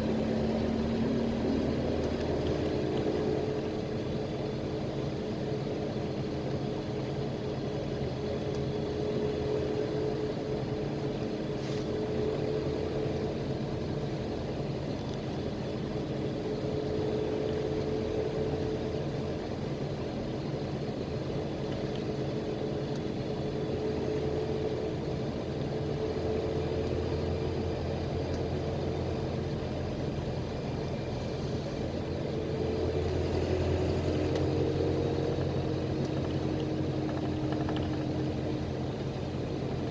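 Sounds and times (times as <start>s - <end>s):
bus engine drone: 0.0s - 39.9s
road rumble: 0.0s - 39.9s.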